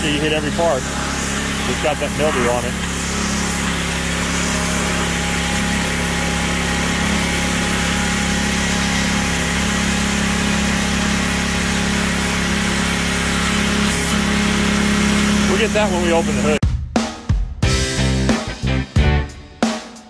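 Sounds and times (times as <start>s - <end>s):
pressure washer running: 0.0s - 16.6s
spray jet hissing on metal: 0.0s - 16.6s.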